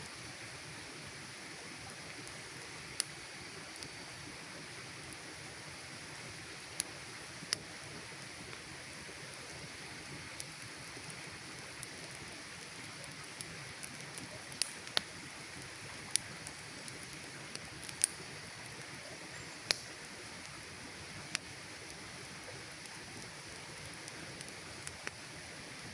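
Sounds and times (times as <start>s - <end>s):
campfire crackling and popping: 0.0s - 25.9s
soft fire hiss: 0.0s - 25.9s.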